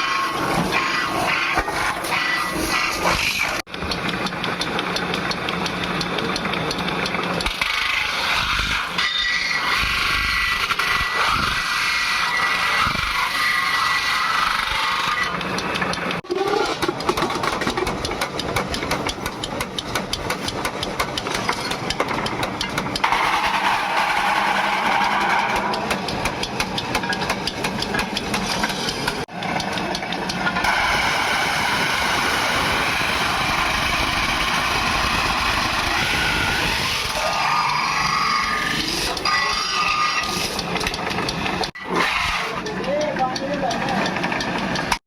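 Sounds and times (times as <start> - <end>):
metalworking machine clattering: 0.0 - 45.0.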